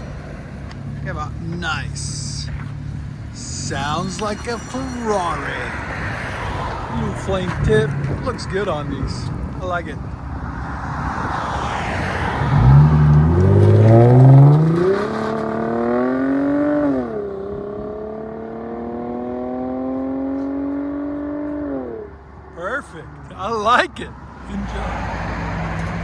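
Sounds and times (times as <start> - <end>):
car exhaust accelerating: 0.0 - 22.2, 24.2 - 26.0.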